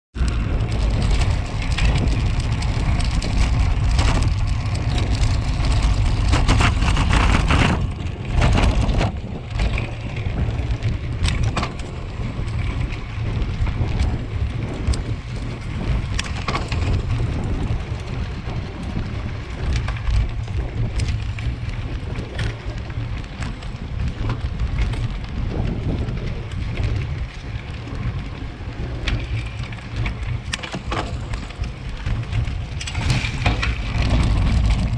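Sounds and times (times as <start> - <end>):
wind rumble on microphone: 0.1 - 34.9
bike rattling over cobbles: 0.2 - 34.9.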